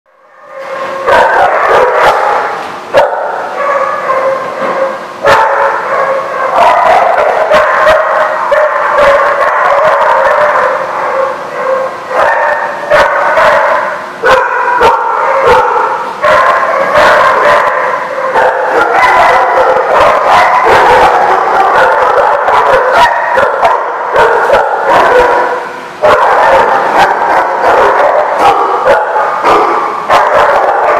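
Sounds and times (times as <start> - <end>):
pack of dogs barking: 0.2 - 30.9.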